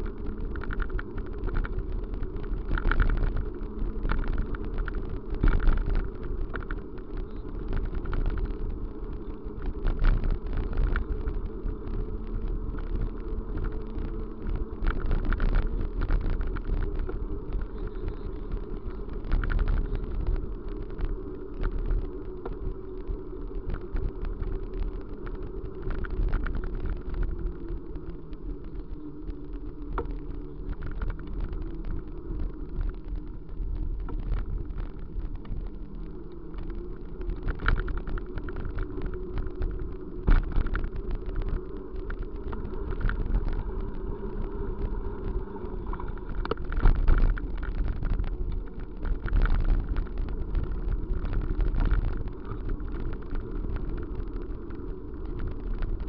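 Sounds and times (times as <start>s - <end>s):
vehicle rumbling with rattles: 0.0s - 56.0s.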